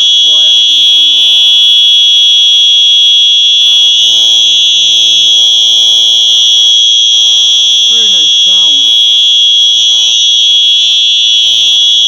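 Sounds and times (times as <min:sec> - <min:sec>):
fire alarm high-pitched tone: 0:00.0 - 0:12.0.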